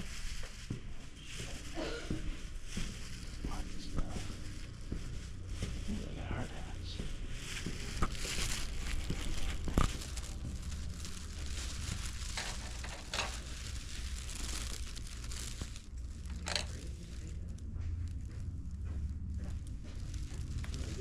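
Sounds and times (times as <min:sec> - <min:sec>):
rustling and crinkling: 0:00.0 - 0:21.0
low steady hum: 0:00.1 - 0:21.0.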